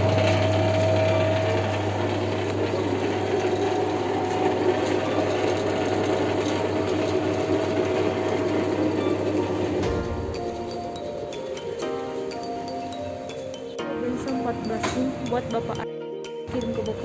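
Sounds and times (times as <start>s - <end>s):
bandsaw humming: 0.0s - 15.8s.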